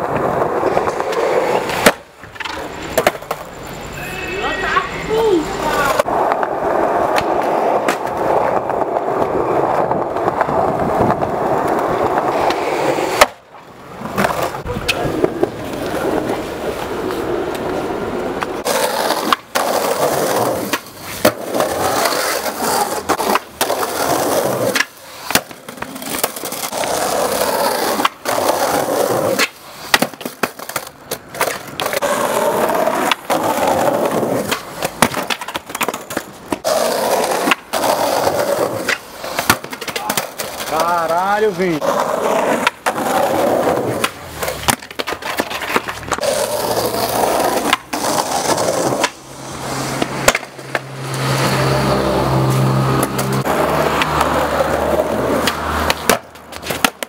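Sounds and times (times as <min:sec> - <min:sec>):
skateboard cracks and clacks: 0:00.0 - 0:03.6, 0:05.6 - 0:57.0
skateboard wheels rolling on concrete: 0:00.0 - 0:57.0.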